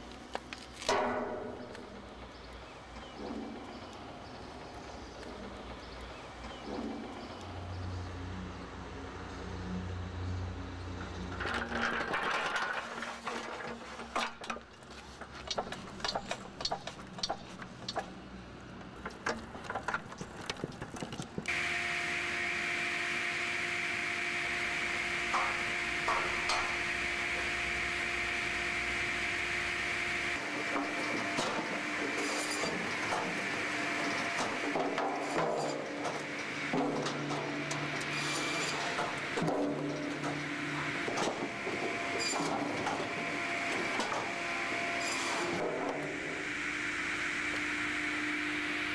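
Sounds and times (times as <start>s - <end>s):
firewood processor humming: 0.0s - 48.9s.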